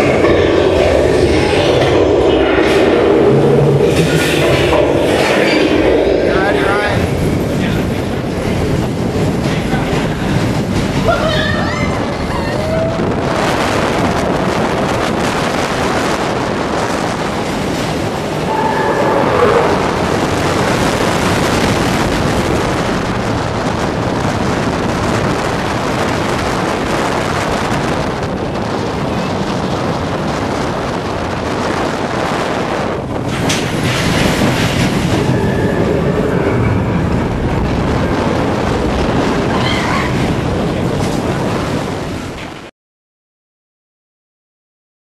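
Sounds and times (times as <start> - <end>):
roller coaster running on track: 0.0 - 42.7.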